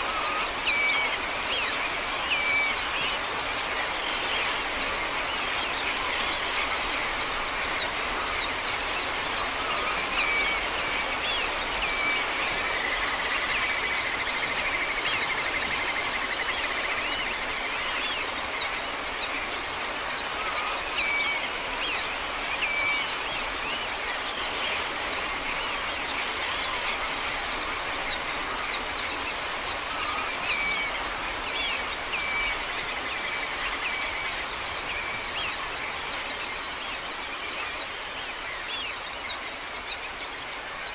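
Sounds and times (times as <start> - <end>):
outdoor background hiss: 0.0 - 40.9.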